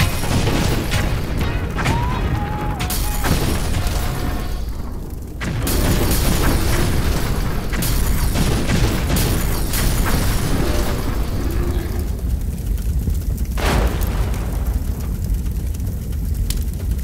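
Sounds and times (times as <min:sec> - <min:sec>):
explosion blasts: 0:00.0 - 0:16.0
booms: 0:00.0 - 0:16.5
continuous low rumble: 0:00.0 - 0:17.0.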